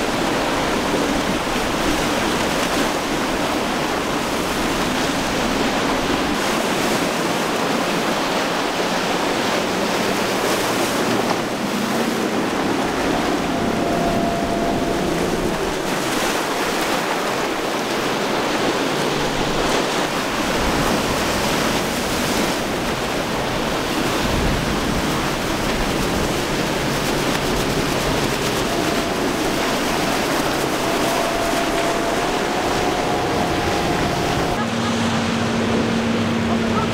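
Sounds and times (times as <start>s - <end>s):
wind buffeting microphone: 0.0s - 34.6s
faint outboard motors: 0.0s - 36.9s
waves splashing: 0.0s - 36.9s.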